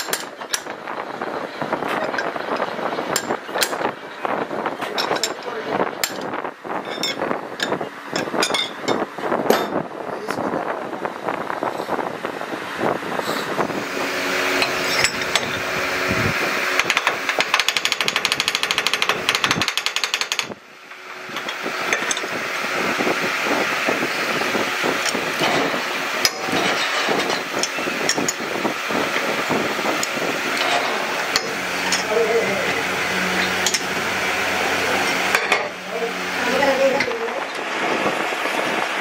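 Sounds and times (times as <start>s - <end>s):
machinery running: 0.0s - 39.0s.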